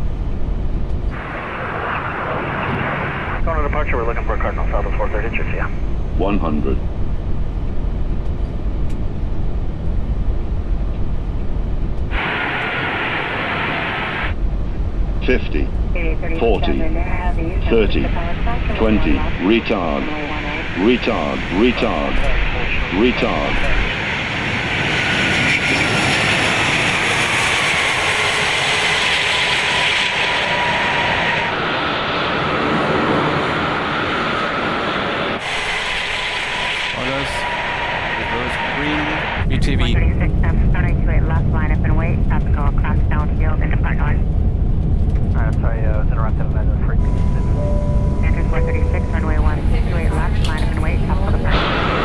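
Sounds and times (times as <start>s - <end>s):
low rumble of airflow and engines: 0.0s - 52.0s.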